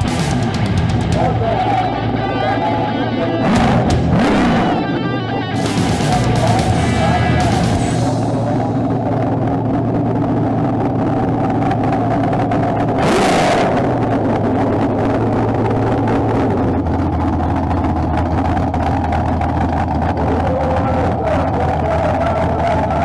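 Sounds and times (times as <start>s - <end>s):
car engine running: 0.0s - 23.0s
loud burst of noise: 0.0s - 23.0s.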